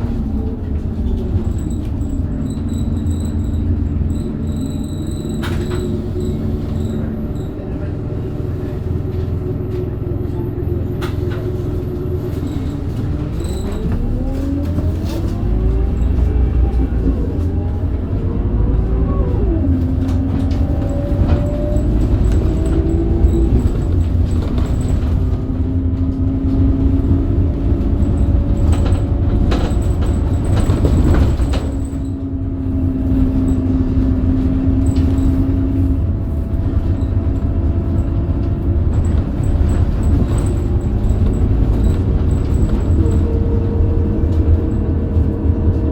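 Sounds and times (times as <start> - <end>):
bus diesel engine pulling away: 0.0 - 45.9
constant low rumble: 0.0 - 45.9.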